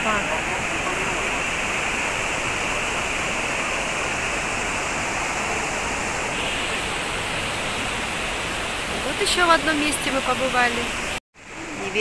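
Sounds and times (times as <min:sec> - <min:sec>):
waterfall and rushing rapids: 0:00.0 - 0:12.0.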